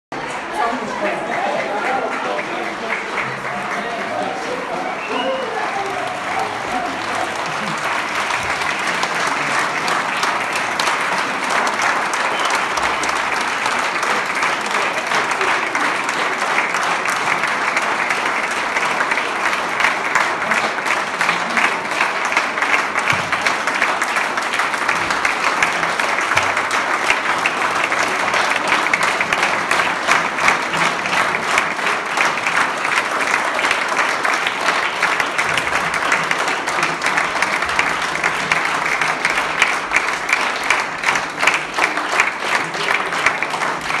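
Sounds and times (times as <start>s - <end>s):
audience applauding: 0.2s - 44.0s.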